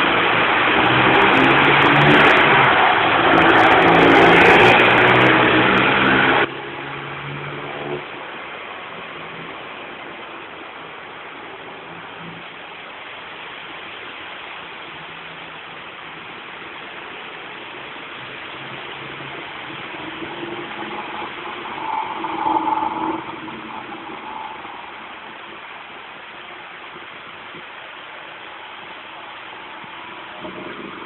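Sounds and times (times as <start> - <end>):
steady rain hiss: 0.0 - 31.0
vehicle driving through water: 0.0 - 31.0.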